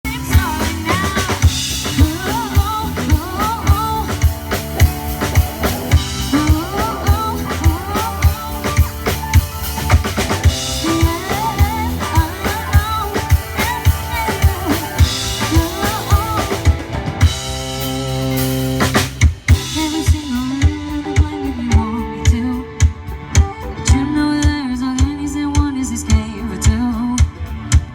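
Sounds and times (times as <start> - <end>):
drum kit beat: 0.0 - 27.9
live band music: 0.0 - 27.9
melodic lead line: 0.1 - 26.6.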